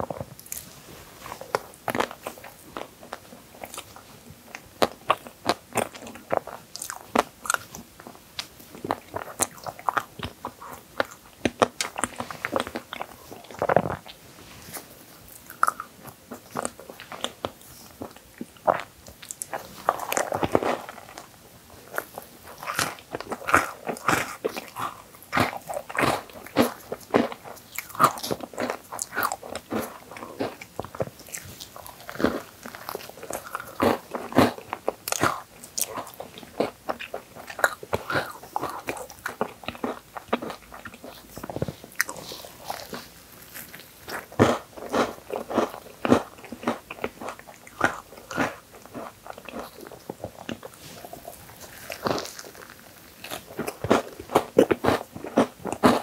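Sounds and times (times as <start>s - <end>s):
chewing and biting: 0.0s - 56.0s
cookie pieces crunching: 4.5s - 56.0s.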